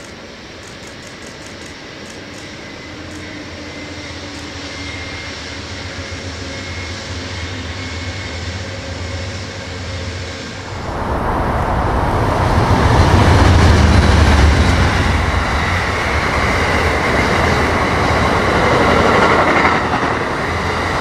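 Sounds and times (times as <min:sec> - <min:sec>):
train rumbling across bridge: 0:00.0 - 0:21.0.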